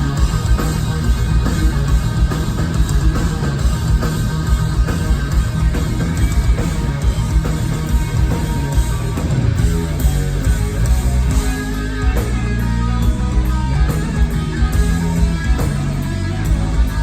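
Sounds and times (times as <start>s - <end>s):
distorted electric guitar: 0.0s - 17.0s
hard rock band playing: 0.0s - 17.0s.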